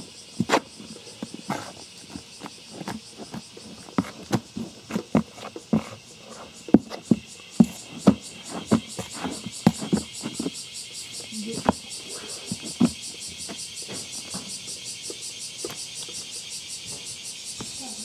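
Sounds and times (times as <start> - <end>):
spoon scraping soil: 0.3 - 16.3.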